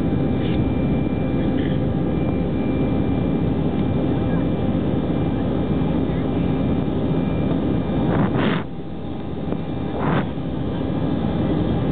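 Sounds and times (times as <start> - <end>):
faint high whine: 0.0 - 11.9
jet engine low rumble: 0.0 - 11.9.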